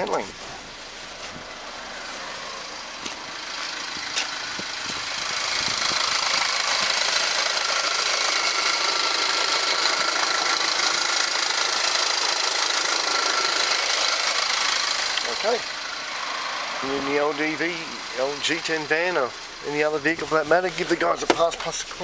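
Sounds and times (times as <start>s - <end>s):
diesel van engine idling: 0.0s - 22.0s.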